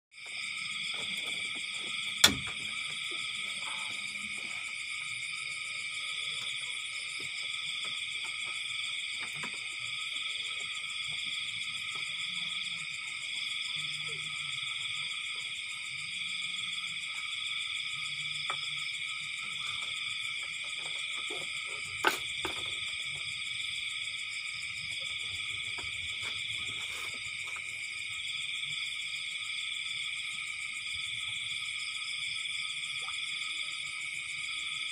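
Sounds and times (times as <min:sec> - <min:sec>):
insects and frogs calling: 0:00.2 - 0:34.9.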